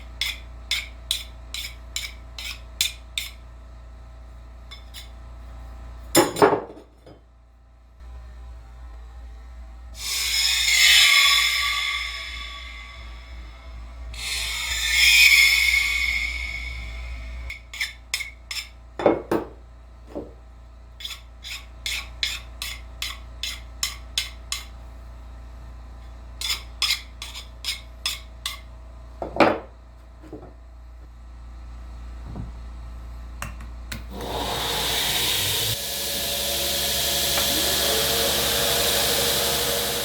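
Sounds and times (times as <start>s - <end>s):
low shop hum: 0.0s - 40.0s.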